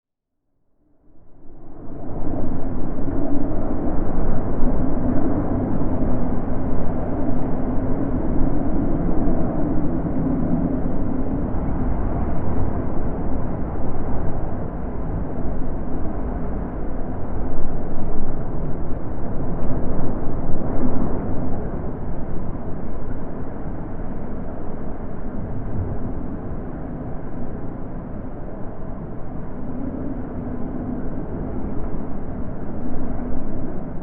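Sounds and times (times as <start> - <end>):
wind blowing in gusts: 1.3 - 34.0.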